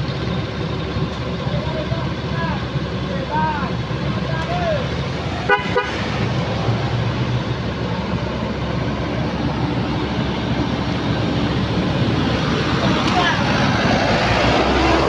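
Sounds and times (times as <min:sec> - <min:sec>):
road traffic engine rumble: 0:00.0 - 0:15.0
motorbikes passing: 0:01.5 - 0:15.0.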